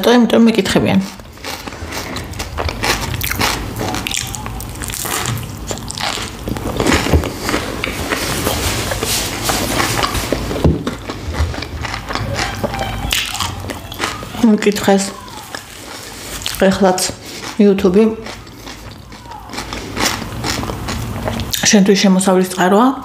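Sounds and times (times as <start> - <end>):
biting and chewing toasted sandwich: 0.8 - 21.6.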